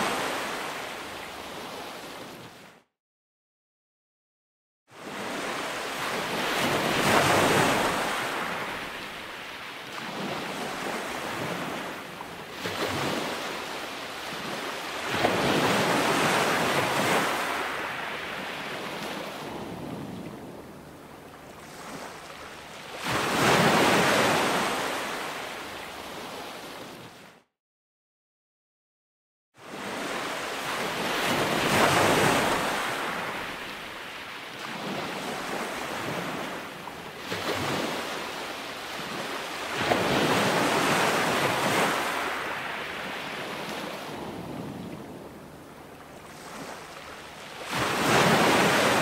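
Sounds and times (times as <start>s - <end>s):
ocean waves breaking: 5.0s - 27.3s, 29.6s - 49.0s.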